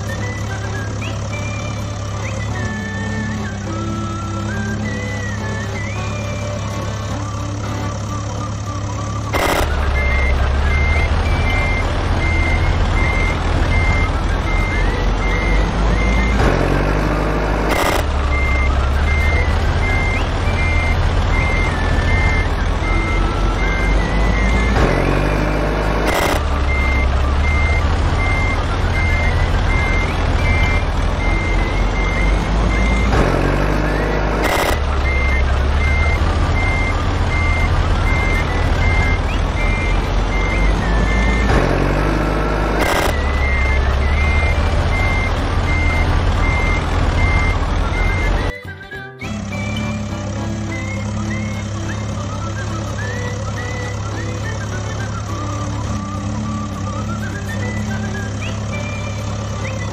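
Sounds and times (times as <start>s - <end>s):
reversing alarm beeping: 0.0s - 59.9s
truck engine rumbling: 0.0s - 59.9s.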